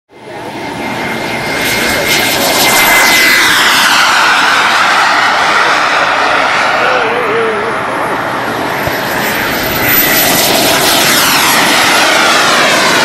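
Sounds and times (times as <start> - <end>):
model jet engine roaring: 0.1 - 13.0.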